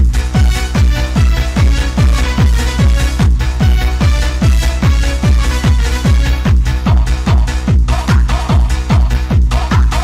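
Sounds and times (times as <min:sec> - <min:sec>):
fast electronic dance music: 0:00.0 - 0:10.0
heavy kick drum: 0:00.0 - 0:10.0.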